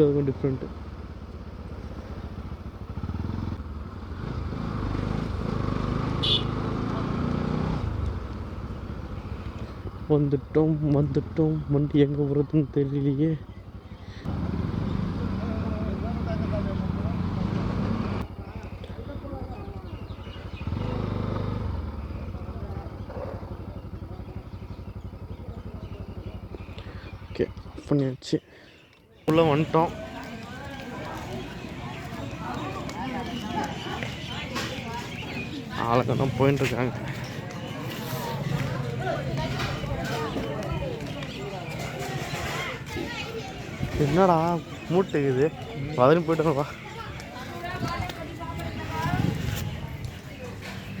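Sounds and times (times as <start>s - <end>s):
motorcycle engine running: 0.0s - 28.0s, 29.3s - 51.0s.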